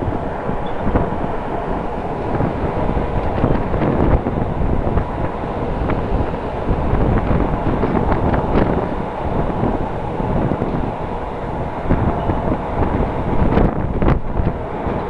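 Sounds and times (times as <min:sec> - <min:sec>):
train wheels on rails: 0:00.0 - 0:15.0
wind buffeting microphone: 0:00.0 - 0:15.0.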